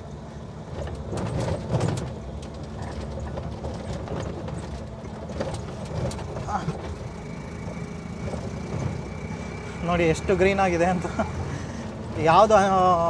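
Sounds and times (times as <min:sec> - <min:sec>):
car body rattling over rough ground: 0:00.0 - 0:13.0
car engine low hum: 0:00.0 - 0:13.0.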